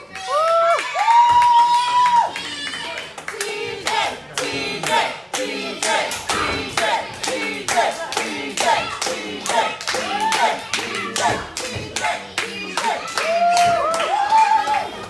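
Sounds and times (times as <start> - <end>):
crowd chanting and shouting: 0.0 - 15.0
crowd clapping in rhythm: 0.0 - 15.0.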